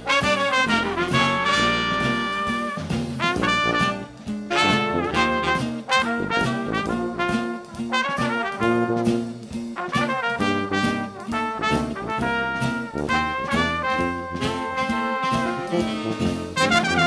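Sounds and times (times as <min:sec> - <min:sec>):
upbeat jazzy brass music: 0:00.0 - 0:17.0.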